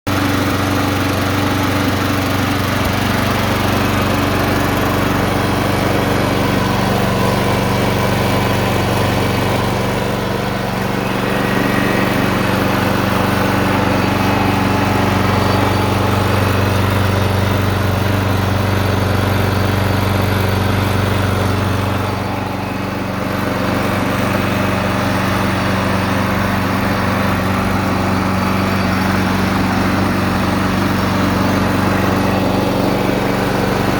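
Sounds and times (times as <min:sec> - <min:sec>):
lawnmower engine running: 0:00.0 - 0:33.9.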